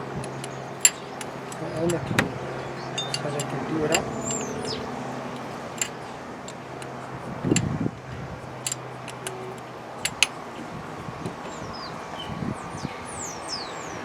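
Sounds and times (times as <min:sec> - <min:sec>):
hand tools and metal parts clicking: 0:00.0 - 0:11.8.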